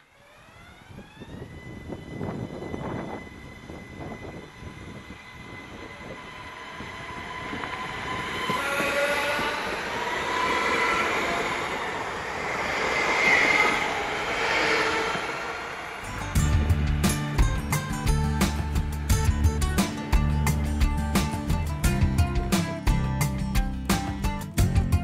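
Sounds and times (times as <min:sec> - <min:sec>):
high whining tones: 0:00.0 - 0:20.8
electric train rumble and wheel noise: 0:00.0 - 0:25.0.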